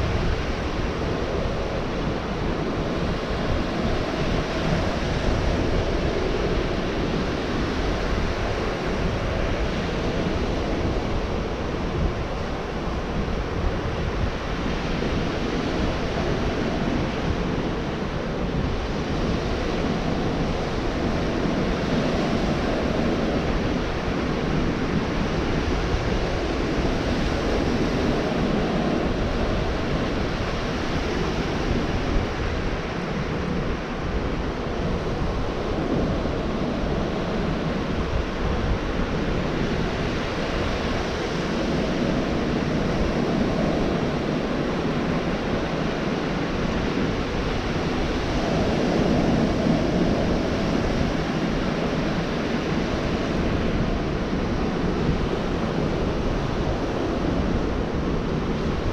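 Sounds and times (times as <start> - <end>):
surf breaking on a beach: 0.0 - 58.9
wind rumbling on microphone: 0.0 - 58.9.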